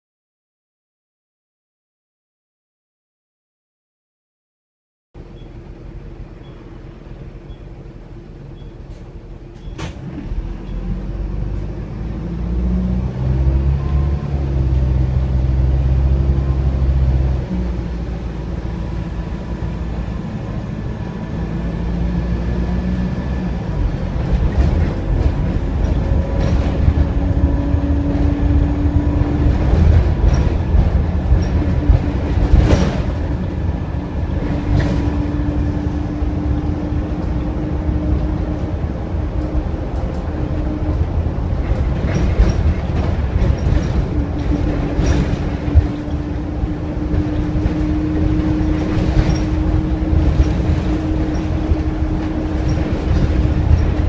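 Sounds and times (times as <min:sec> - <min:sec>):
bus engine and road rumble: 0:05.2 - 0:54.0.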